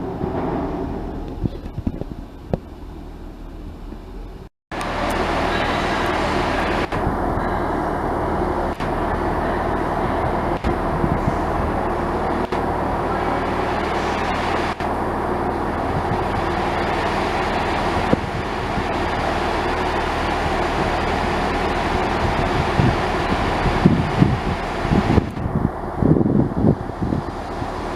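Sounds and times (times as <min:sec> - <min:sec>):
large engine running: 0:00.0 - 0:27.9.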